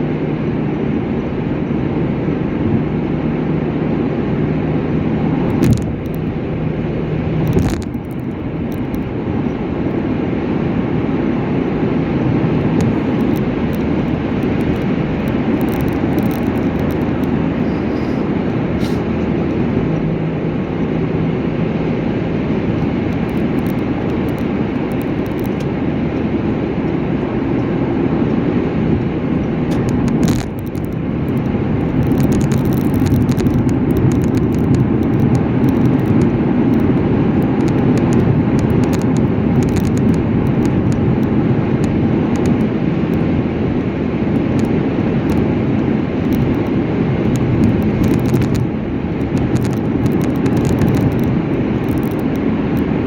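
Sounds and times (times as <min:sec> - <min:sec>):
car road noise at speed: 0:00.0 - 0:53.0.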